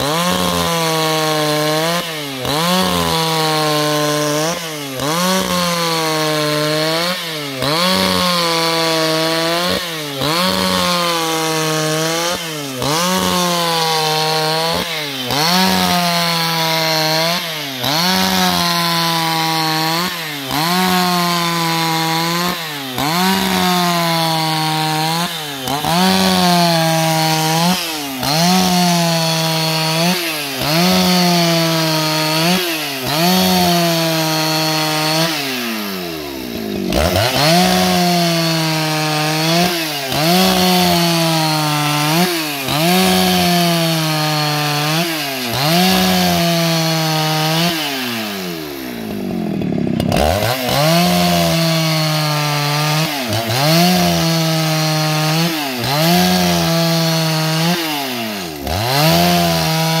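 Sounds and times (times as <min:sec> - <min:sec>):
chainsaw cutting wood: 0:00.0 - 1:00.0.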